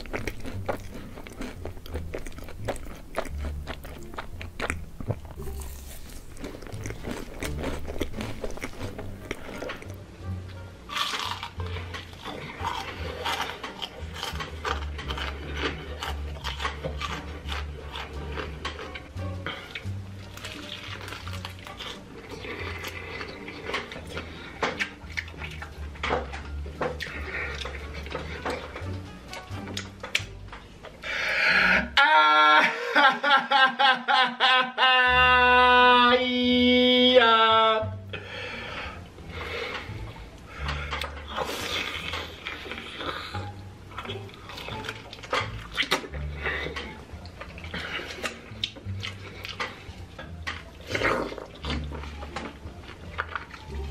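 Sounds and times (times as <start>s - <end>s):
chewing crunchy food: 0.0s - 10.1s, 10.9s - 31.0s, 39.0s - 53.9s.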